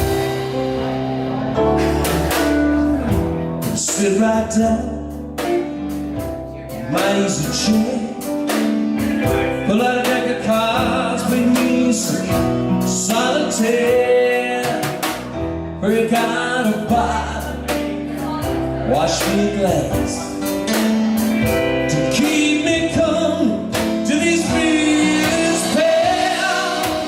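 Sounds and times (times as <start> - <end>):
low bass notes: 0.0 - 27.0
steady drum beats: 0.0 - 27.0.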